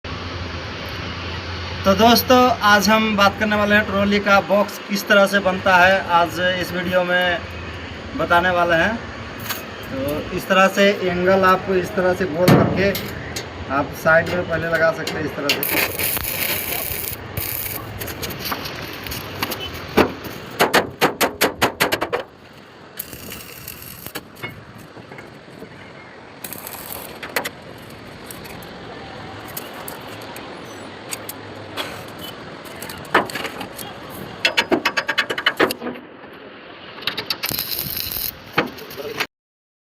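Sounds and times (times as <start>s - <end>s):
workshop noise: 3.7s - 39.3s.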